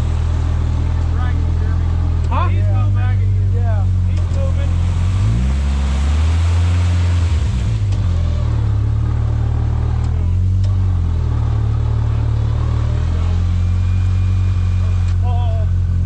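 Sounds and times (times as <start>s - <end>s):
off-road vehicle engine: 0.0s - 16.0s.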